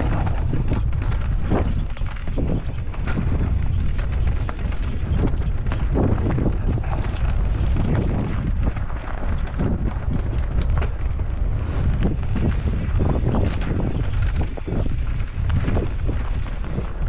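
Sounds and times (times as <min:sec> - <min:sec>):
bike knocking and rattling: 0:00.0 - 0:17.0
tyres rumbling over dirt: 0:00.0 - 0:17.0
wind buffeting microphone: 0:00.0 - 0:17.0.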